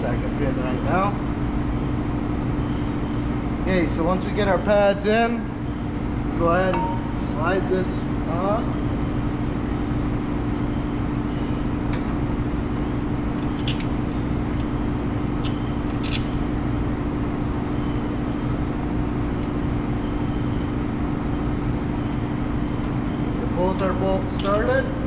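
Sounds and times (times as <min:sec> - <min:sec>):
shop machinery hum: 0:00.0 - 0:25.0.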